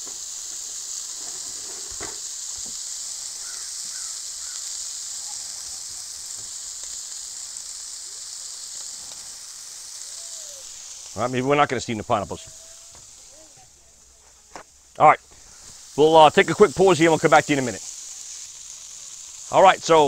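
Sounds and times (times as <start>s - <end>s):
burger patties sizzling on griddle: 0.0s - 20.0s.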